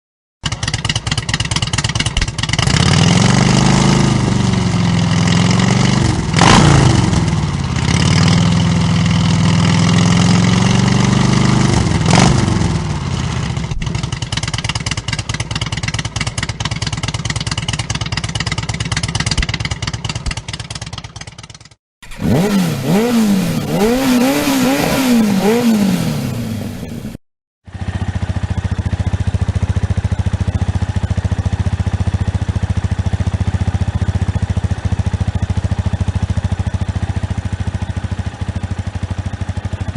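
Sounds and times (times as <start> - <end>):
motorcycle engine revving and idling: 0.4 - 39.9.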